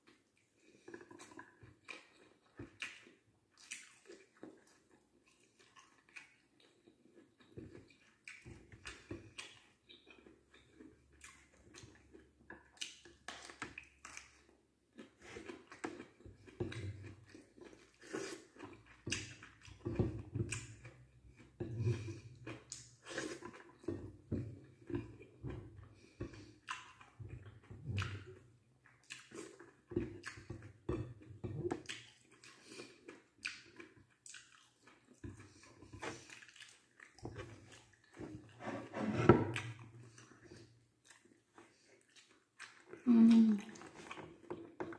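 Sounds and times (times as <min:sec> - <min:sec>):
wet chewing and lip smacking: 0:00.0 - 0:38.6, 0:39.5 - 0:44.9.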